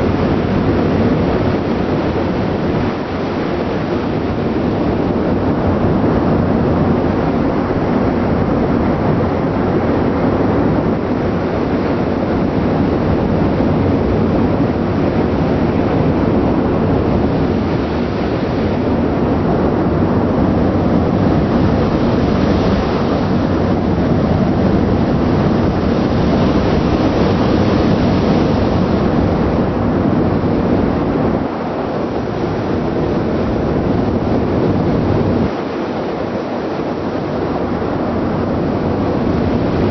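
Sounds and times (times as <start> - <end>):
sea wash: 0.0 - 39.9
ship engine and exhaust: 0.0 - 39.9
wind on microphone: 0.0 - 39.9.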